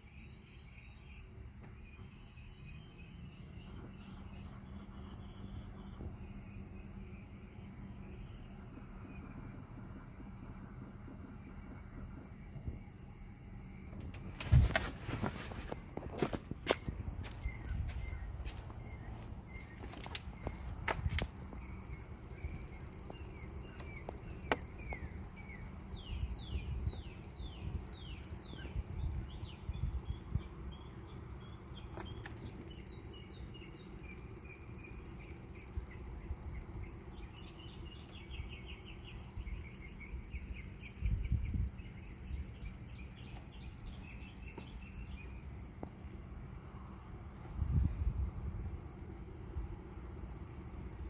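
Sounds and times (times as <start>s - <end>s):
small birds singing: 0.0s - 51.0s.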